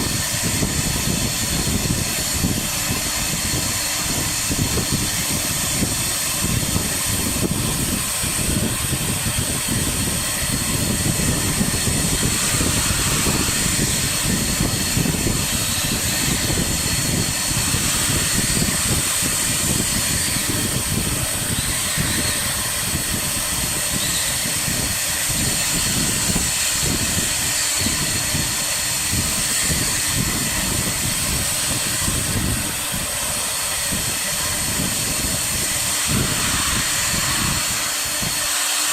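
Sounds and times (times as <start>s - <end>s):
router cutting wood: 0.0s - 38.9s
router spindle whine: 0.0s - 38.9s.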